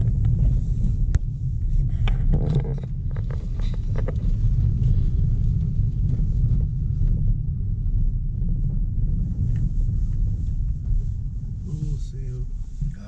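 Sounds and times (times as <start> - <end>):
tyres and suspension rumbling: 0.0 - 13.0.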